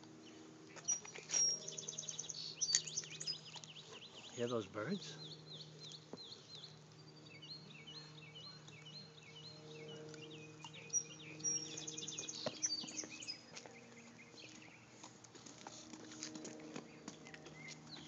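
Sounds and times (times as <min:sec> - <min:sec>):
low hum: 0:00.0 - 0:18.0
songbirds chirping: 0:00.0 - 0:18.0.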